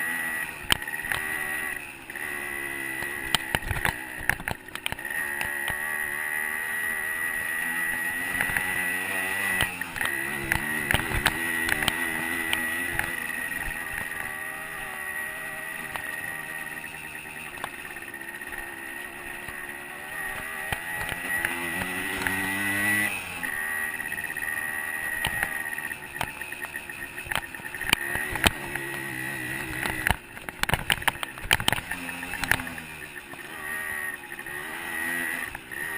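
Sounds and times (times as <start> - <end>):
dirt bike engine revving: 0.0 - 35.9
steady high whine: 0.0 - 35.9.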